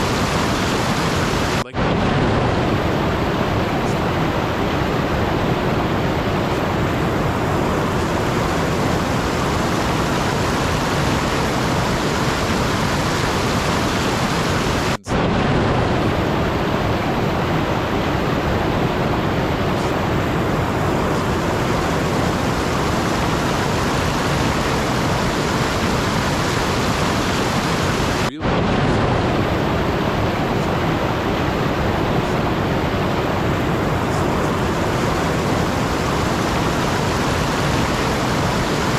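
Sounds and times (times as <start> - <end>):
steady rushing noise: 0.0 - 38.9.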